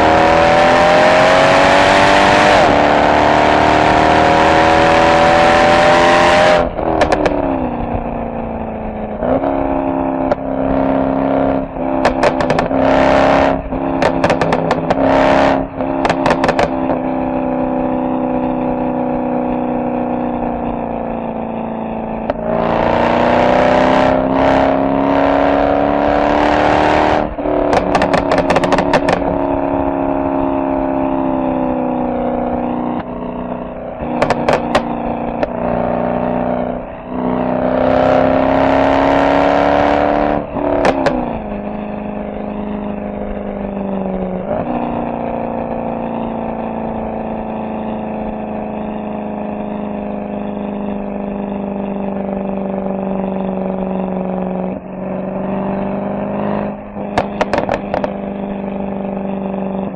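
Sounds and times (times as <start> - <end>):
exhaust crackling: 0.0 - 19.3, 19.9 - 39.8, 40.4 - 45.7, 53.2 - 59.9
car exhaust accelerating: 0.0 - 59.9.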